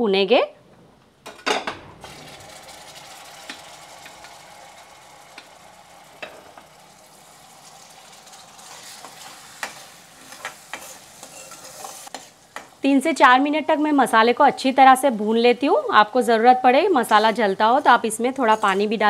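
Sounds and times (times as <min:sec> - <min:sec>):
spices sizzling in hot oil: 0:02.0 - 0:19.0.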